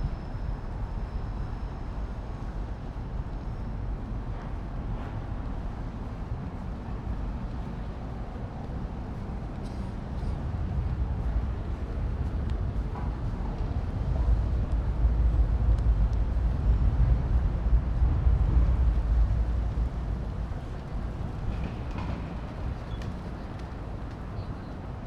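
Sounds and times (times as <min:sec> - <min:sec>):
low city rumble: 0:00.0 - 0:25.0.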